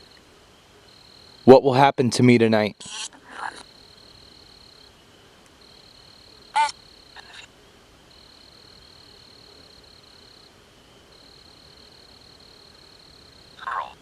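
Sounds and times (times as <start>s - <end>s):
night insects trilling: 0.0s - 14.0s.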